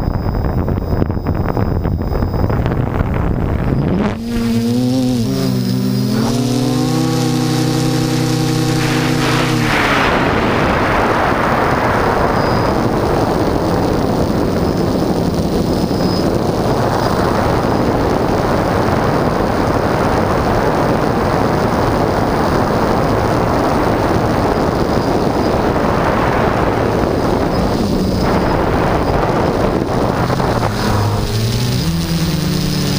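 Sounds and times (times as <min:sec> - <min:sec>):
faint high motor whine: 0:00.0 - 0:32.9
wind buffeting microphone: 0:00.0 - 0:32.9.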